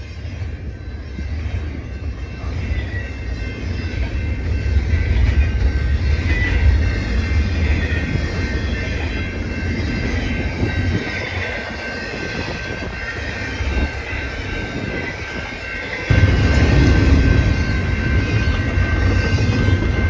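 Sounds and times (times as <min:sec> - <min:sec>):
freight train rumble: 0:00.0 - 0:20.0.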